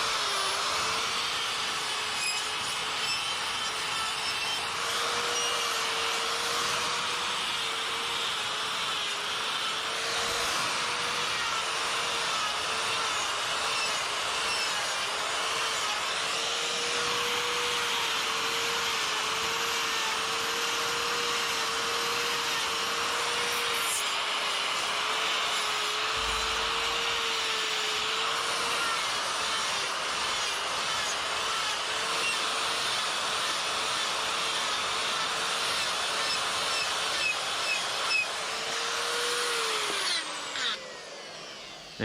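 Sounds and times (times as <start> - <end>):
die grinder whining: 0.0 - 42.0
grinder cutting wood: 0.0 - 42.0.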